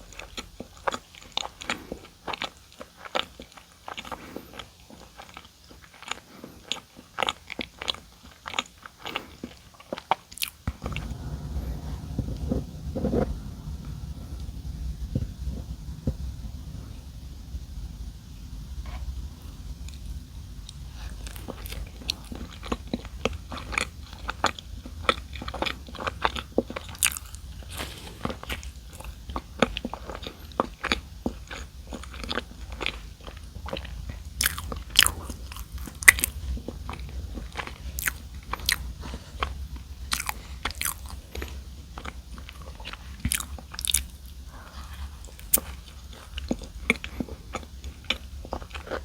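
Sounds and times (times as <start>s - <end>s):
crunching and chewing donuts: 0.0s - 12.2s, 18.2s - 49.0s.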